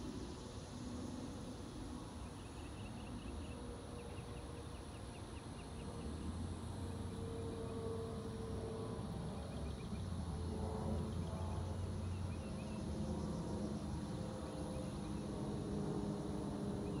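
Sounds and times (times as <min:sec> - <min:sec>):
distant engine drone: 0:00.1 - 0:17.0.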